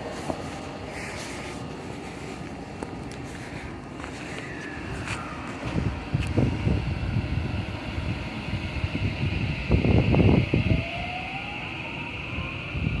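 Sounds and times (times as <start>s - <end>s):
traction motor whine rising: 0.0s - 13.0s
train rumble: 0.0s - 13.0s.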